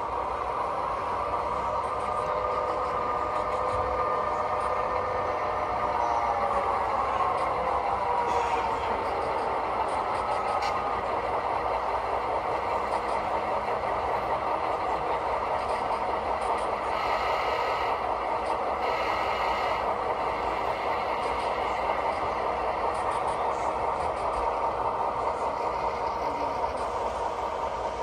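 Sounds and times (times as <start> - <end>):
model diesel locomotive sound: 0.0 - 28.0.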